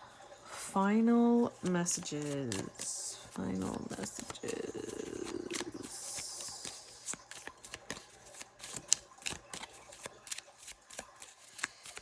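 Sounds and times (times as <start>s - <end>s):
cards being shuffled: 1.4s - 12.0s.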